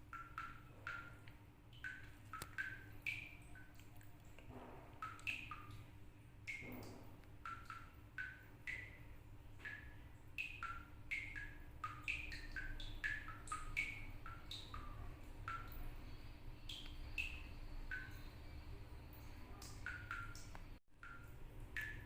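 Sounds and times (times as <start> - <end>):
water drops plinking: 0.1 - 5.9, 6.5 - 22.0.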